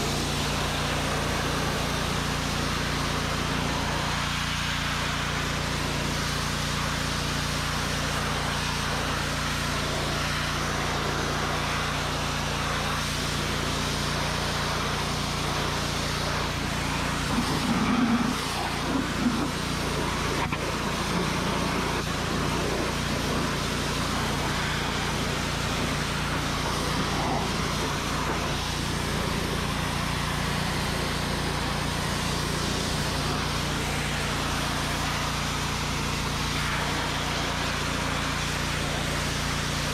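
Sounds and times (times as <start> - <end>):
high-pressure spray hissing: 0.0 - 4.0, 7.8 - 39.9
pressure washer engine running: 0.0 - 39.9.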